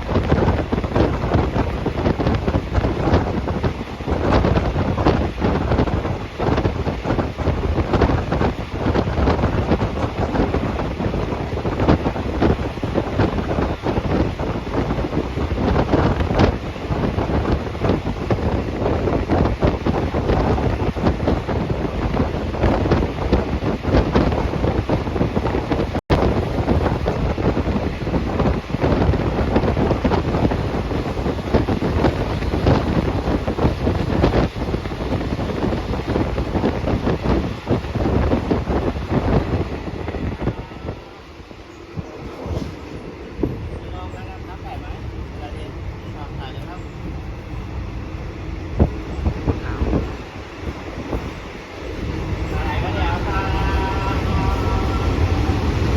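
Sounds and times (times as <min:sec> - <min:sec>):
train rumbling and clattering: 0:00.0 - 0:55.9
wind buffeting microphone: 0:00.0 - 0:55.9.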